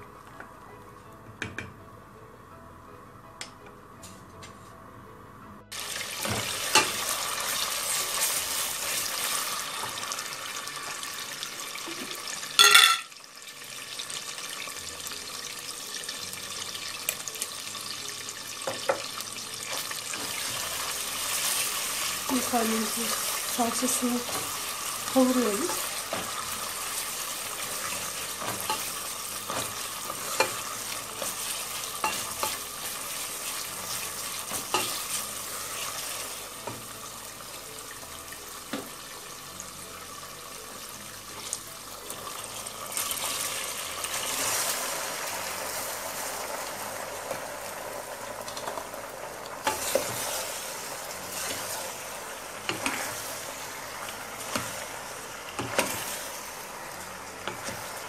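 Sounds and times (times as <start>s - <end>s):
tomato paste sizzling in oil: 5.7s - 58.0s.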